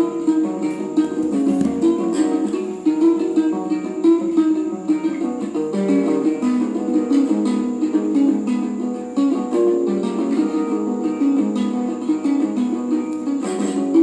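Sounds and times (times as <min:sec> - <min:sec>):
plucked ukulele music: 0:00.0 - 0:14.0.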